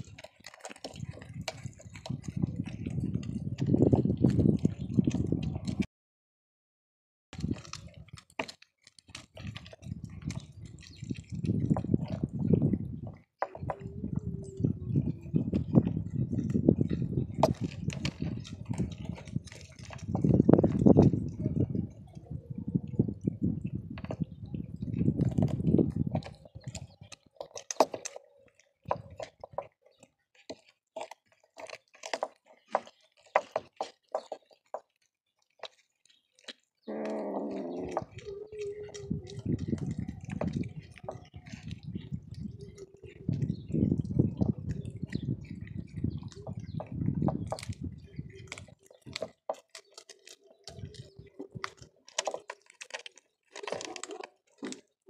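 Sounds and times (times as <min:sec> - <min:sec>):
cats crunching on bones: 0:00.0 - 0:05.9, 0:07.4 - 0:55.0.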